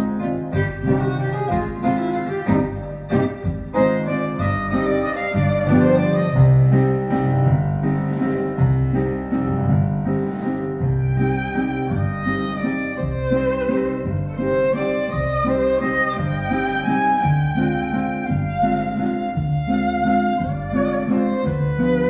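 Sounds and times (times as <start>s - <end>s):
held low string notes: 0.0s - 22.0s
piano notes: 0.0s - 22.0s
violin and piano music: 0.0s - 22.0s.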